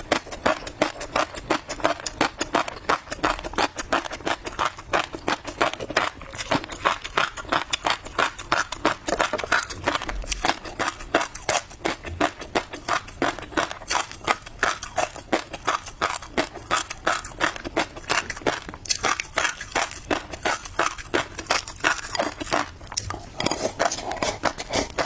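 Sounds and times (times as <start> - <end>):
fish roe crunching while chewed: 0.0 - 25.0.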